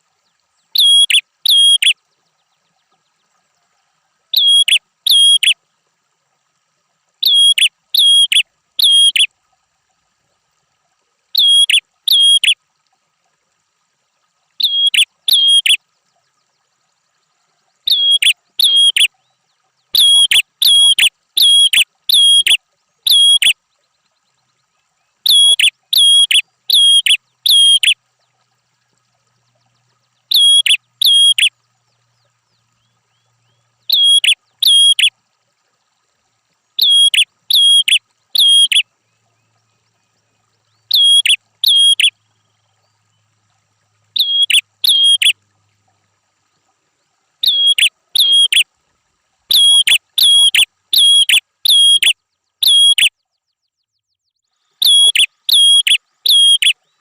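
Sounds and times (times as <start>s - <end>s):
songbird calling: 0.0s - 3.4s, 4.3s - 5.6s, 7.2s - 9.3s, 11.3s - 12.6s, 14.6s - 36.0s, 36.8s - 43.4s, 44.1s - 45.4s, 47.4s - 48.7s, 49.5s - 57.0s.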